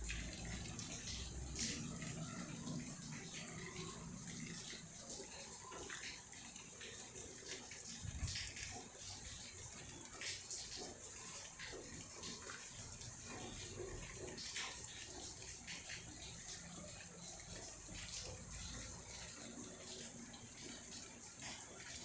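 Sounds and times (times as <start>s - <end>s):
rain falling: 0.0s - 22.0s
water dripping: 0.0s - 22.0s.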